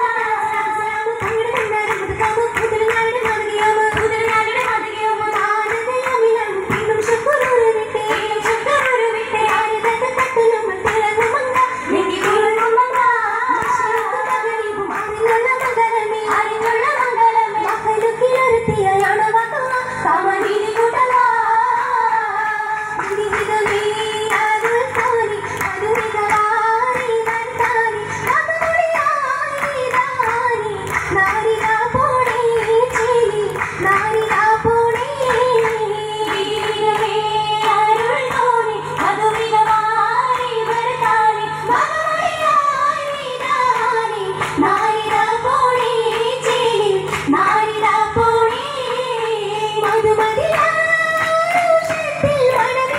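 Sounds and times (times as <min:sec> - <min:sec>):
girls singing in chorus: 0:00.0 - 0:52.9
rhythmic hand-clapping: 0:00.0 - 0:52.9.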